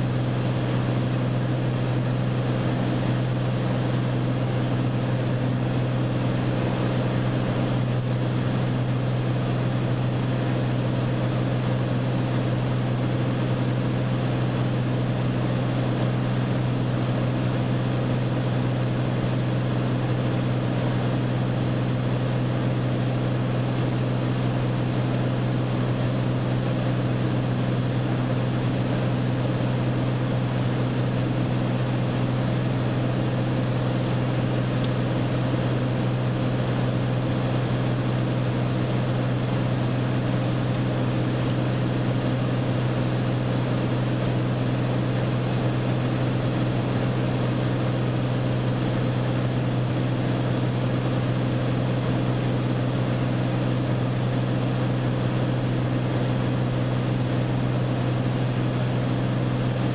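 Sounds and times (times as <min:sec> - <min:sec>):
propeller airplane engine drone: 0:00.0 - 0:59.9.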